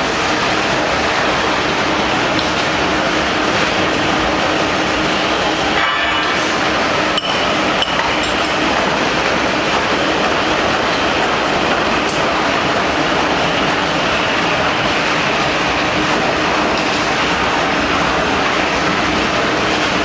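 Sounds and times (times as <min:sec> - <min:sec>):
loud machine din: 0:00.0 - 0:20.0.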